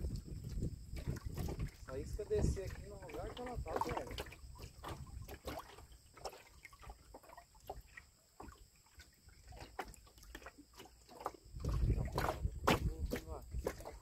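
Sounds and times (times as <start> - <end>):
light water sounds: 0.0 - 14.0.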